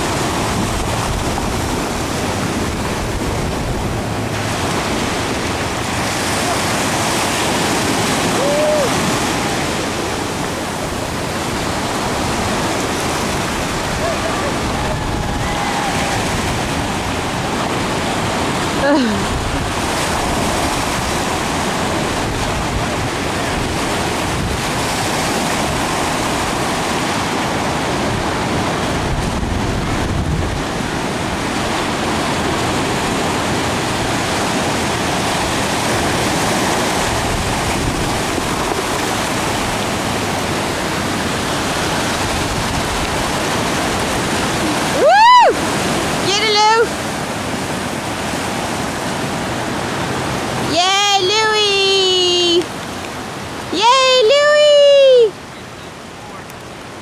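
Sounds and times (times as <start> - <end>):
wind on microphone: 0.0 - 50.8
ocean surf breaking: 0.0 - 57.0.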